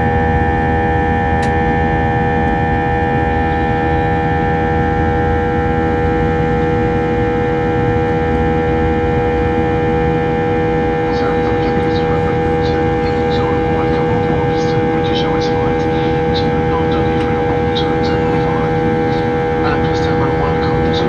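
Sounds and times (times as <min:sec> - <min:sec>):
airliner cabin engine rumble: 0:00.0 - 0:21.0
engine tones humming: 0:01.0 - 0:21.0.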